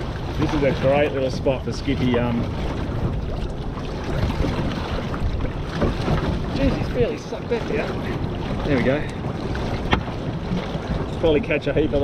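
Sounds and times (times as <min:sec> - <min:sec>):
choppy sea washing: 0:00.0 - 0:12.0
wind buffeting microphone: 0:00.0 - 0:12.0.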